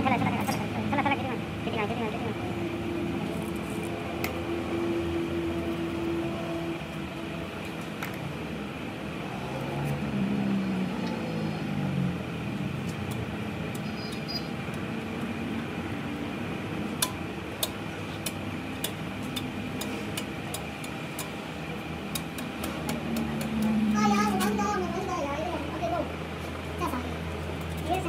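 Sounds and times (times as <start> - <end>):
workshop hum: 0.0 - 28.0.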